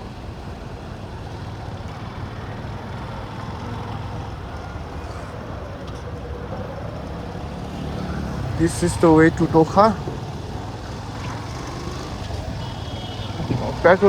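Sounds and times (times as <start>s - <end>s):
motorbike engine and road noise: 0.0s - 14.0s.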